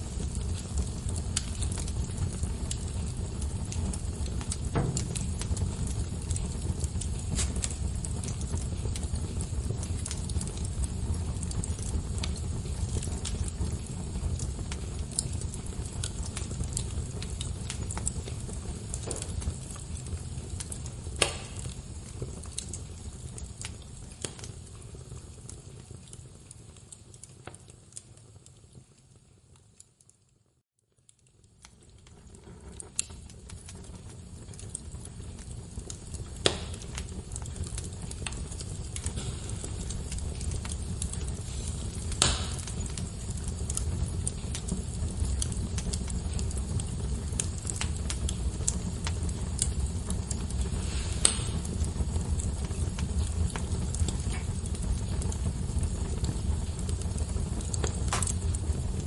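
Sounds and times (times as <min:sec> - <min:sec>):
fire popping sharply: 0:00.0 - 0:27.1, 0:31.4 - 0:59.0
wood fire crackling: 0:00.0 - 0:59.0.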